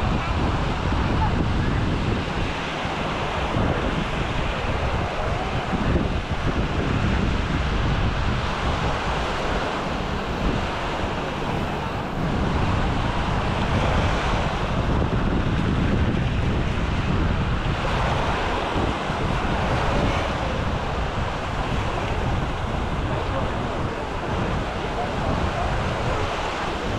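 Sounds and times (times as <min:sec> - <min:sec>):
small waves breaking on shore: 0:00.0 - 0:26.9
wind buffeting microphone: 0:00.0 - 0:26.9.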